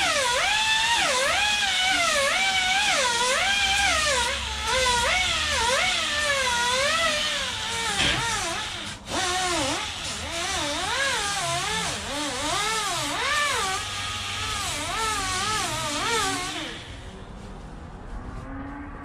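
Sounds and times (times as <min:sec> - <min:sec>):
handheld grinder grinding foam: 0:00.0 - 0:17.2.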